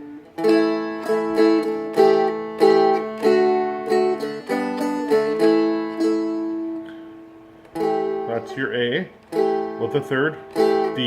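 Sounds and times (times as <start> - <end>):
plucked dulcimer chords: 0.0 - 11.0.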